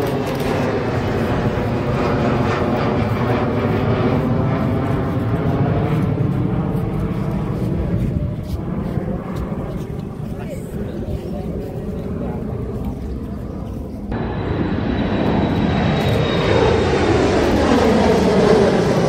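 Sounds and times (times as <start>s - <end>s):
jet engines roaring on takeoff: 0.0s - 19.0s.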